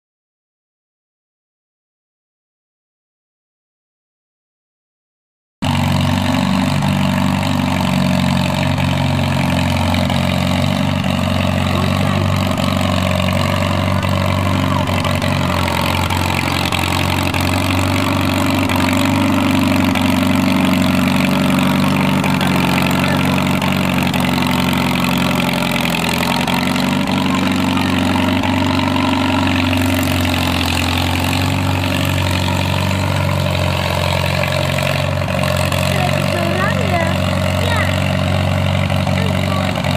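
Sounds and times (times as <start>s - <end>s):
harrow pulled through soil: 5.6s - 39.9s
tractor engine running: 5.6s - 39.9s.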